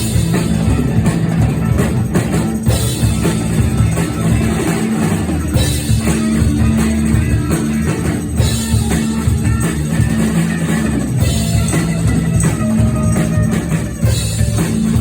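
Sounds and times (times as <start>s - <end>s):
rock music with drums and guitar: 0.0s - 15.0s.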